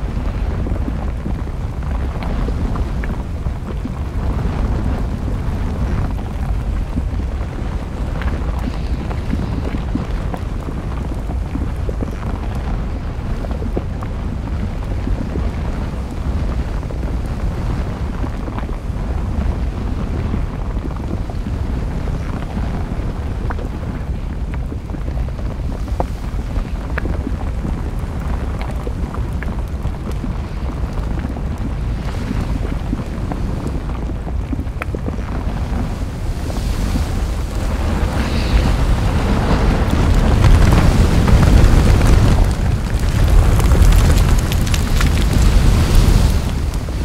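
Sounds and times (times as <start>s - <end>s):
faint crackles: 0.0s - 47.0s
volcanic eruption rumbling: 0.0s - 47.0s
wind buffeting microphone: 0.0s - 47.0s.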